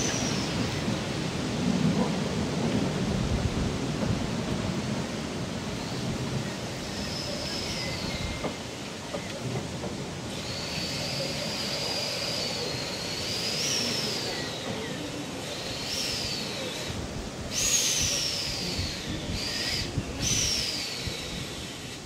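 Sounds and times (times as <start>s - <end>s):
train wheels squealing on rails: 0.0s - 1.4s, 5.0s - 22.0s
rumble of moving train: 0.0s - 22.0s.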